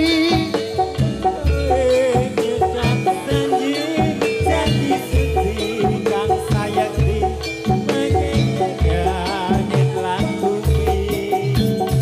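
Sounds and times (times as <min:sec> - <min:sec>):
heavy low drum beats: 0:00.0 - 0:12.0
metallophones playing: 0:00.0 - 0:12.0.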